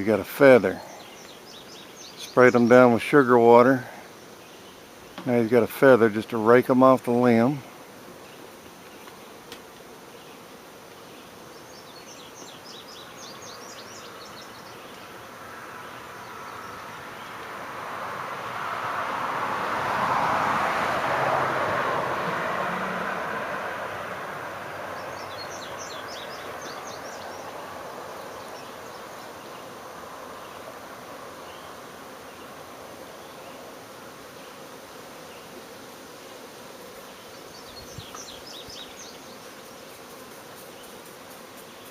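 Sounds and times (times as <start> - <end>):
honey bees buzzing: 0.0 - 41.9.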